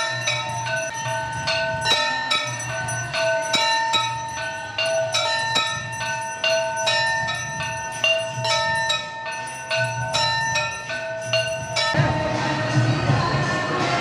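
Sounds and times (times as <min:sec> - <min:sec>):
temple bells ringing: 0:00.0 - 0:13.6.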